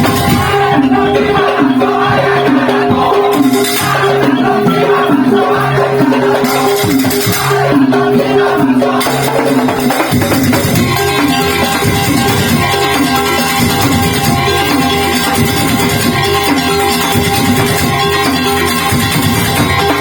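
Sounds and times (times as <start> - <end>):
low drums: 0.0 - 20.0
percussion ensemble playing: 0.0 - 20.0.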